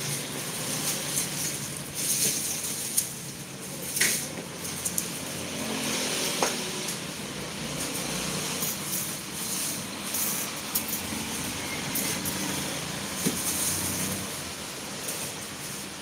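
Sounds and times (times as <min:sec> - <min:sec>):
distant traffic noise: 0:00.0 - 0:16.0.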